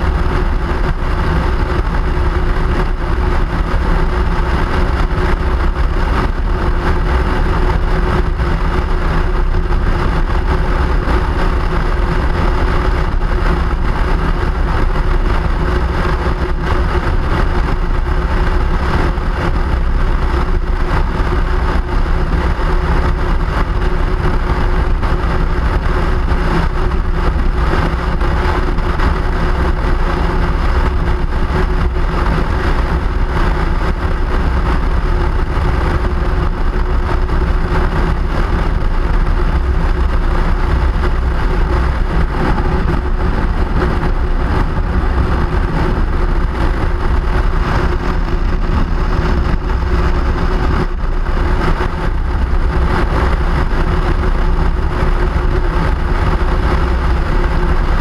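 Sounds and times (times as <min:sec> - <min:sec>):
low rumble and rushing noise: 0:00.0 - 0:58.0
vehicle motor hum: 0:00.0 - 0:58.0.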